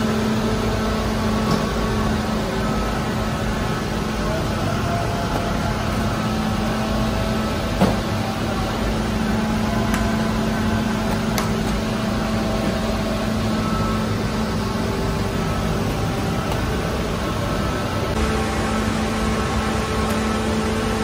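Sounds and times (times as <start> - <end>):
bakery machinery humming: 0.0 - 21.0.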